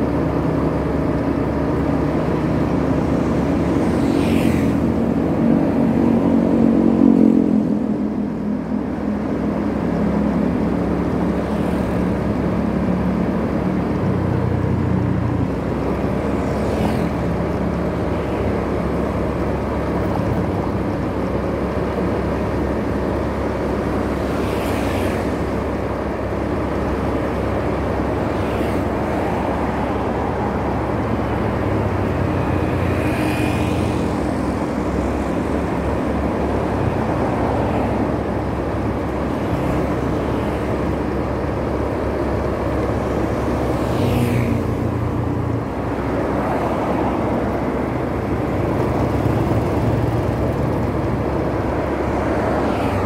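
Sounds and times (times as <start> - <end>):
motorbike engine hum: 0.0 - 53.0
passing traffic: 0.0 - 53.0
road noise: 0.0 - 53.0.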